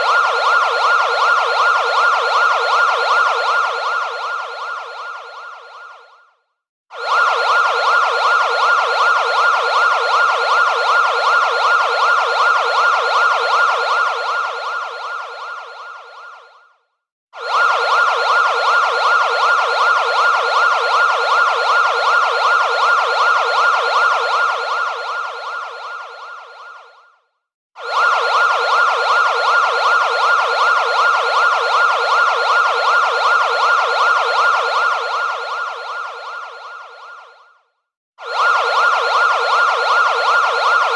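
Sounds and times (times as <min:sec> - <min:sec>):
siren wailing: 0:00.0 - 0:06.3, 0:06.9 - 0:16.7, 0:17.4 - 0:27.2, 0:27.8 - 0:40.9.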